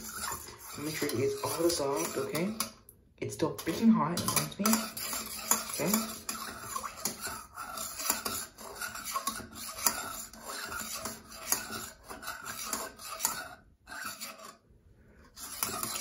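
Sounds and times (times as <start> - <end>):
spoon scraping metal bowl: 0.0 - 16.0.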